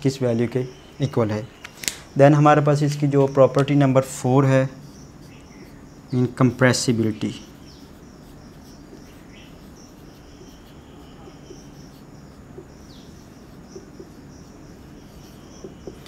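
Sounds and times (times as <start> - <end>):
faint high chirping: 0.0 - 16.0
room hiss: 0.0 - 16.0
marker squeaking on whiteboard: 2.8 - 16.0.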